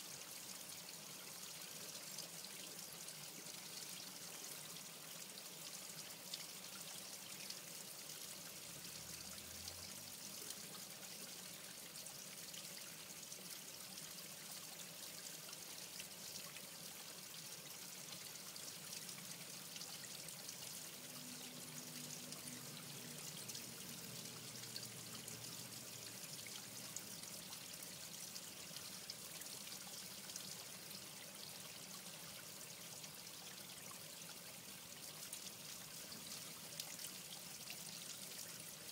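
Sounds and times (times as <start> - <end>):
water trickling into pond: 0.0 - 38.9.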